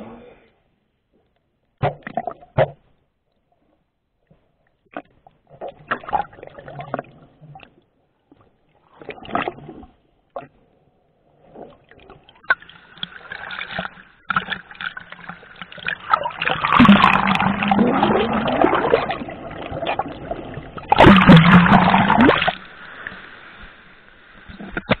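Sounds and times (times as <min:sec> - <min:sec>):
water splashing and sloshing: 0:01.7 - 0:25.0.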